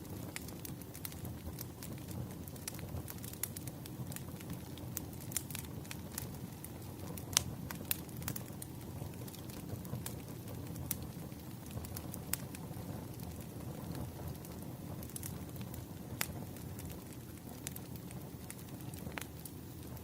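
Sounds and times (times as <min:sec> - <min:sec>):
crackling wood fire: 0:00.0 - 0:20.0.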